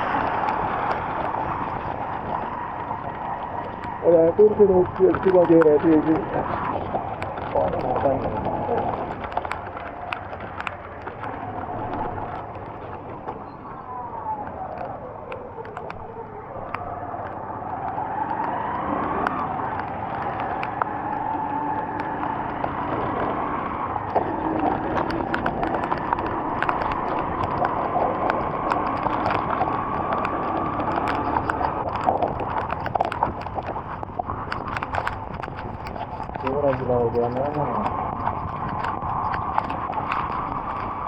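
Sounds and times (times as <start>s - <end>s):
raindrops tapping: 0.0s - 41.0s
vehicle engines running: 0.0s - 41.0s.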